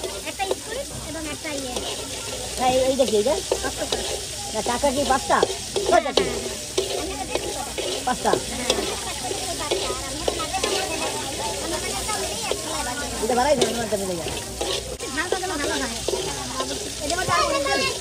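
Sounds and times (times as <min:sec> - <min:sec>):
metal spatula scraping wok: 0:00.0 - 0:18.0
oil sizzling: 0:00.0 - 0:18.0.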